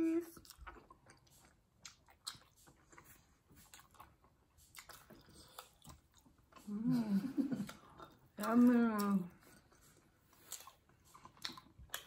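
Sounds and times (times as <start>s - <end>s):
faint chewing clicks: 0.3s - 6.7s, 7.6s - 12.0s.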